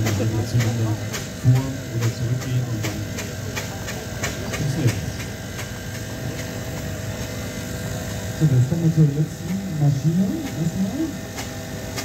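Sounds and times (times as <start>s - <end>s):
low mechanical rumble: 0.0s - 12.0s
steam engine exhaust chuffing: 0.0s - 12.0s.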